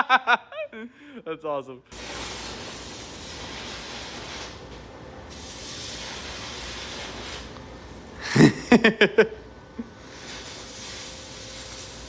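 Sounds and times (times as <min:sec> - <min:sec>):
welding arc hissing: 0:01.9 - 0:12.0.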